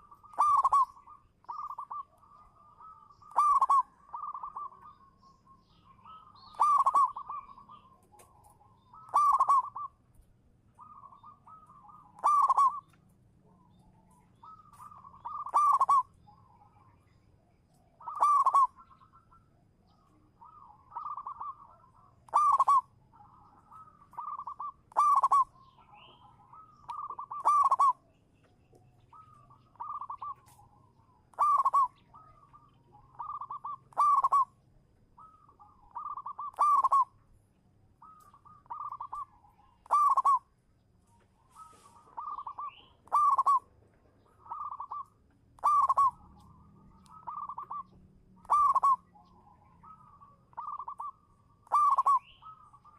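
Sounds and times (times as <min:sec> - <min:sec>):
dove cooing: 0:00.0 - 0:10.0, 0:10.8 - 0:16.8, 0:17.9 - 0:28.0, 0:29.0 - 0:37.2, 0:38.0 - 0:52.9.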